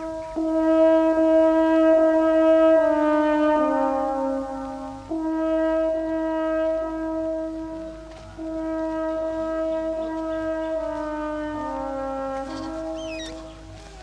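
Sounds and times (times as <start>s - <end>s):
slow long-held horn notes: 0.0s - 14.0s.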